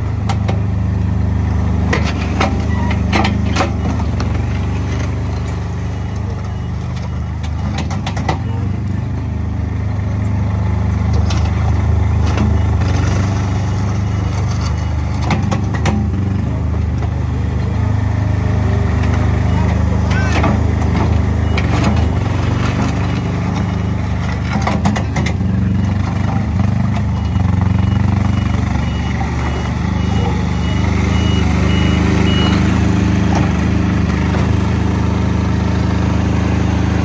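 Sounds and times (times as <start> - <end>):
loader engine running: 0.0 - 37.0.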